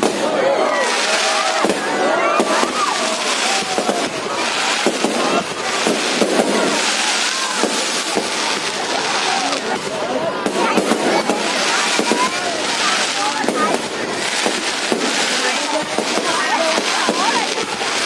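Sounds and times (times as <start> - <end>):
fireworks crackling and banging: 0.0 - 18.0
people's voices: 0.0 - 18.0.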